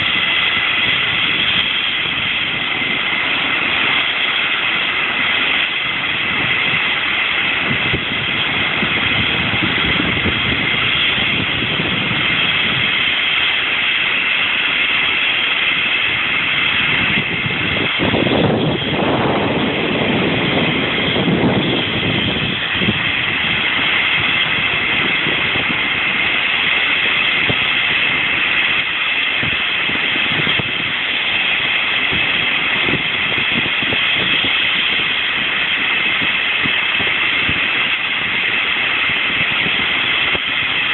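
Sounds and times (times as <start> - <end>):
helicopter rotor whooshing: 0.0 - 40.9
helicopter turbine whine: 0.0 - 40.9.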